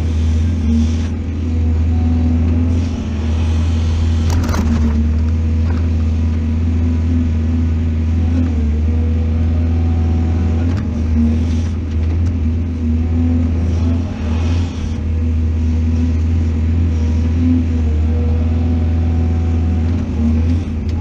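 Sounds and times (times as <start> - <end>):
heavy diesel engine humming: 0.0 - 21.0.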